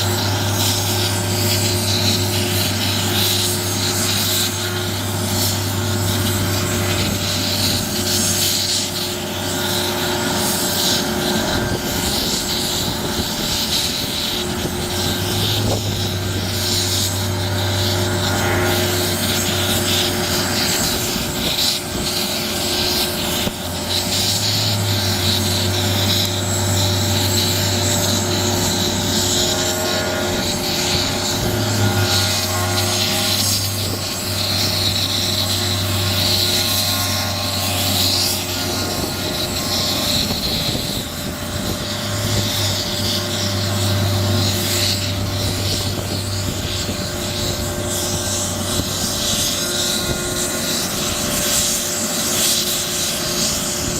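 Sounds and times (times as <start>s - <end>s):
helicopter engine and rotor: 0.0s - 53.9s.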